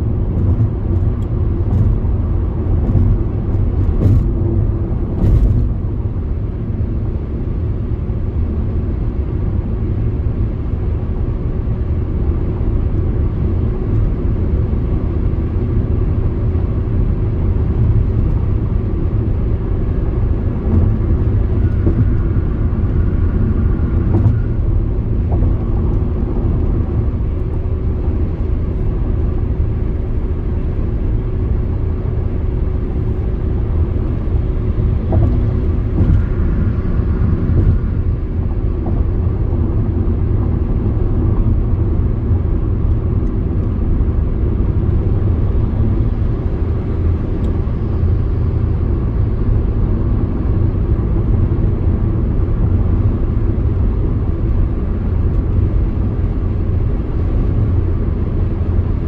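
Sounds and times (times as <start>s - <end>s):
car interior road and engine rumble: 0.0s - 59.0s.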